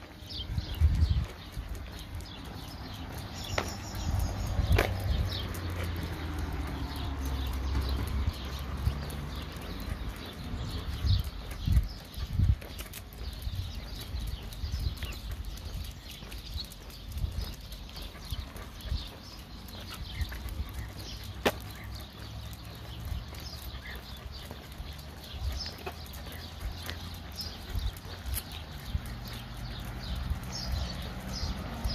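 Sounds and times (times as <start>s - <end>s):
dog claws clicking on asphalt: 0.0s - 31.9s
footsteps on asphalt: 0.0s - 31.9s.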